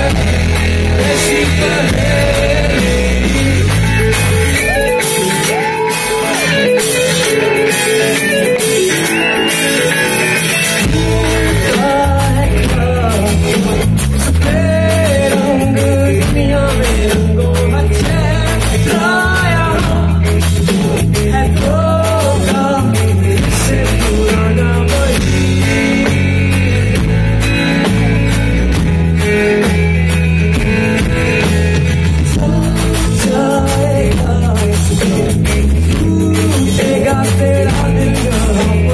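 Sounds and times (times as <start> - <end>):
singer's voice: 0.0 - 6.8, 9.0 - 28.3, 32.2 - 38.9
bass guitar: 0.0 - 38.9
electric guitar: 0.0 - 38.9
live rock band playing: 0.0 - 38.9.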